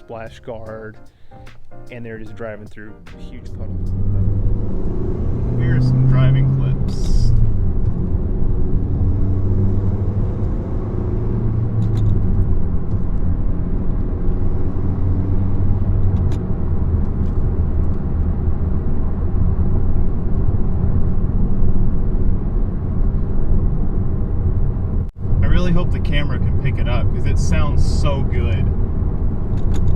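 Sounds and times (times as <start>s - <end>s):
road noise: 0.0s - 29.9s
car engine drone: 3.4s - 29.9s.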